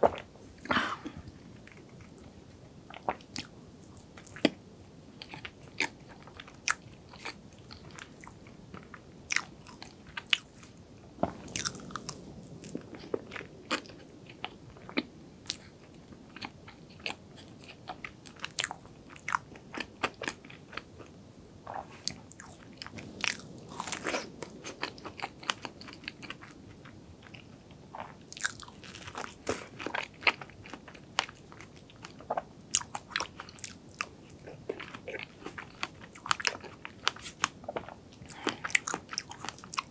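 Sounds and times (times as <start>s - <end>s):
chewing cake: 5.2s - 39.9s.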